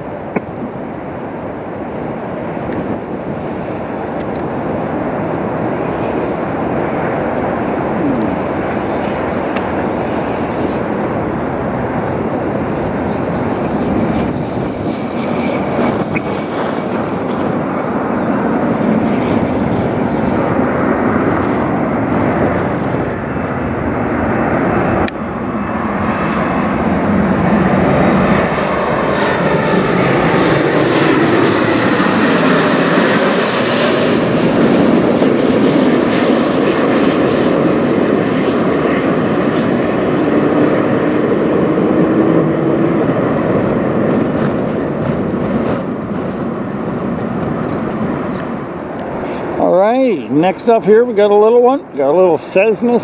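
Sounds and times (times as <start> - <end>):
jetliner flying overhead: 0.0 - 53.0.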